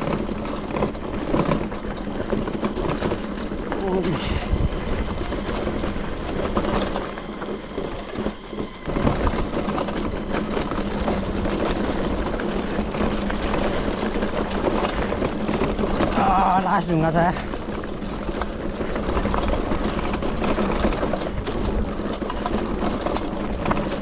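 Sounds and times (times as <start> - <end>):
bike rattling over bumps: 0.0 - 24.0
bike tyres on dirt: 0.0 - 24.0.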